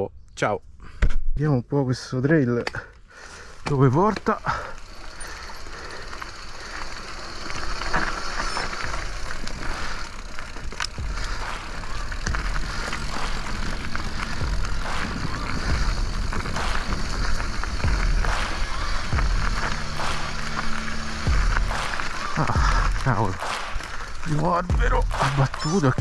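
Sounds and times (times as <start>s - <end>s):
bike tyres crunching on dirt: 2.8s - 26.0s
bike rattling over bumps: 3.1s - 26.0s
low rumble: 4.7s - 26.0s.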